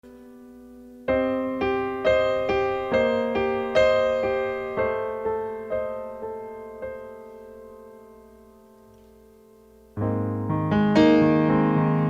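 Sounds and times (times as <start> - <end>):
keyboard playing slow chords: 0.0 - 8.9, 9.6 - 12.0.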